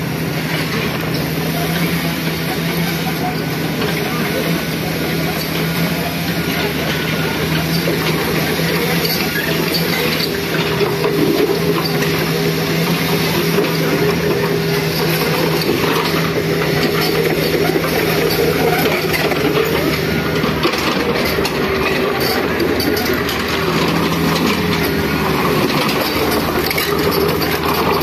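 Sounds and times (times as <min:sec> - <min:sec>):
large engine humming: 0:00.0 - 0:28.0.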